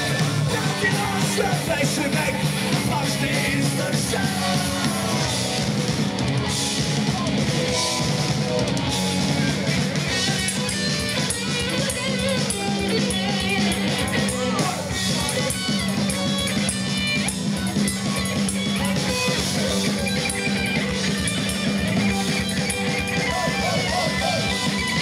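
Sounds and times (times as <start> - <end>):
bass guitar: 0.0 - 25.0
drum kit beat: 0.0 - 25.0
electric guitar: 0.0 - 25.0.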